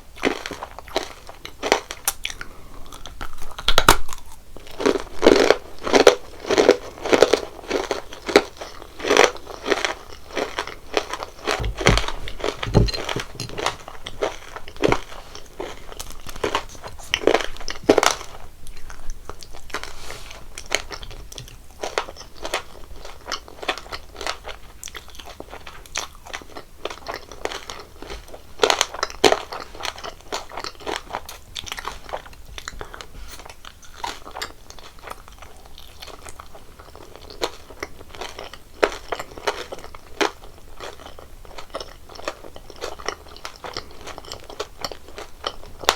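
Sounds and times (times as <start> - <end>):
chewing crunchy candy: 0.0 - 45.9.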